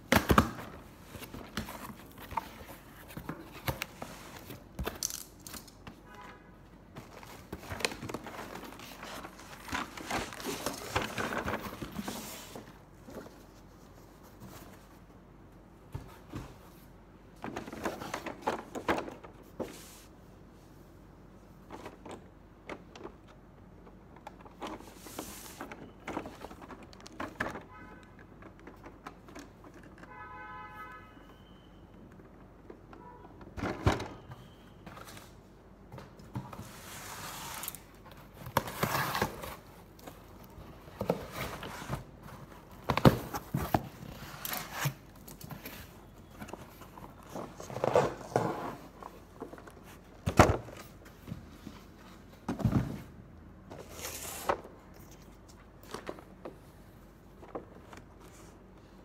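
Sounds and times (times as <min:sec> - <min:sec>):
cardboard and plastic rustling: 0:00.1 - 0:06.1, 0:06.9 - 0:15.1, 0:15.9 - 0:20.1, 0:21.4 - 0:30.2, 0:32.2 - 0:58.8.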